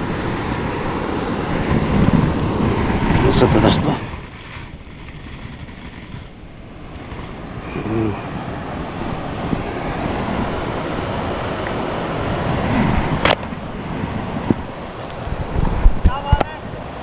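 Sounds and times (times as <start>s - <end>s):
wind rushing across microphone: 0.0s - 17.0s.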